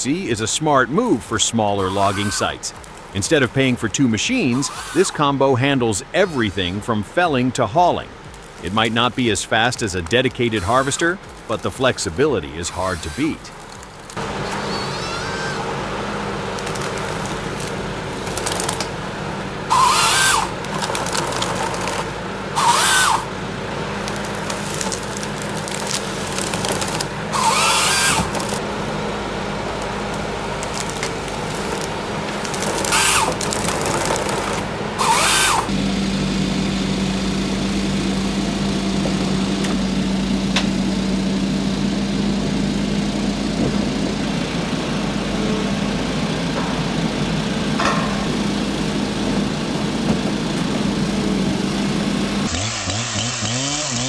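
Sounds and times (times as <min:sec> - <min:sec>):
diesel engine running: 0:00.0 - 0:54.0
saw cutting through stems: 0:00.0 - 0:54.0.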